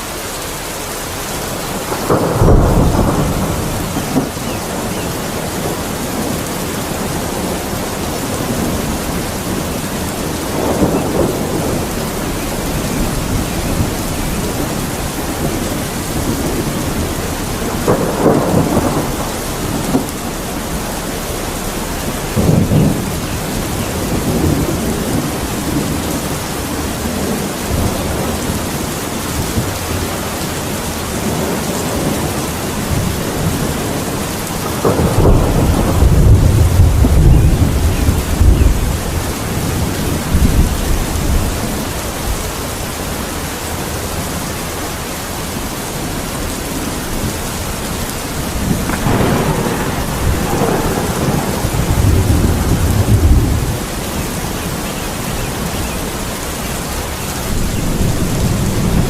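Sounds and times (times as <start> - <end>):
rain falling: 0.0 - 59.0
thunder rumbles: 0.0 - 59.0.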